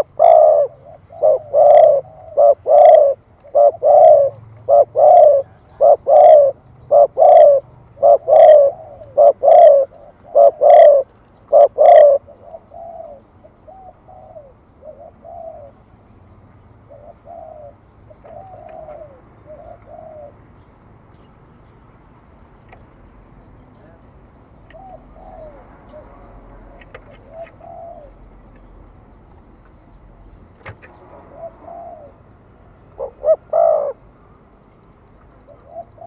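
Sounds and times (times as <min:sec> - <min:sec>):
dove cooing: 0:00.0 - 0:15.9, 0:16.8 - 0:20.7, 0:24.6 - 0:28.8, 0:29.7 - 0:34.1, 0:35.4 - 0:36.0.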